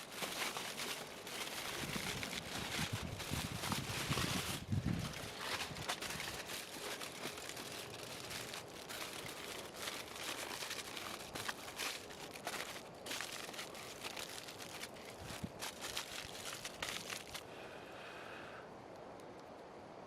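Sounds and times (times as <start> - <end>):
aluminium foil crinkling: 0.0 - 17.5.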